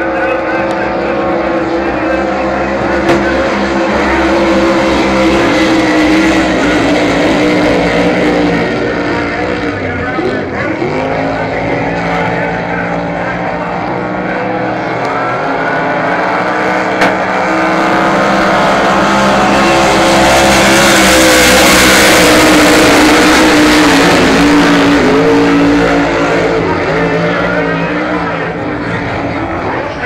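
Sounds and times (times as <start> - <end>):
racing boat engines at full throttle: 0.0 - 30.0.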